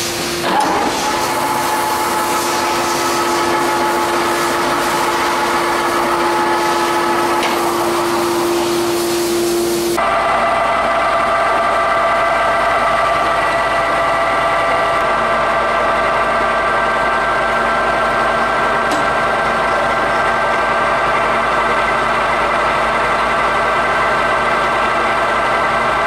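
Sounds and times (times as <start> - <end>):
lathe gearing whine: 0.0 - 26.0.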